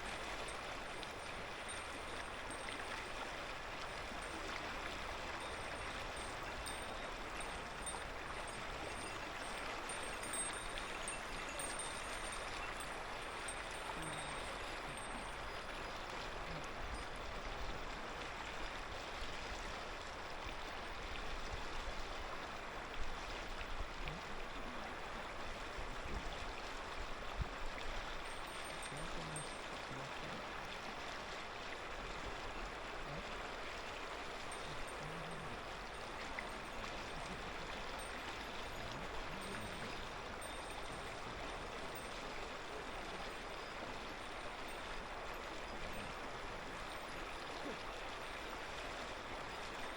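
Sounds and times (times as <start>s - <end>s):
river babbling over stones: 0.0s - 49.9s.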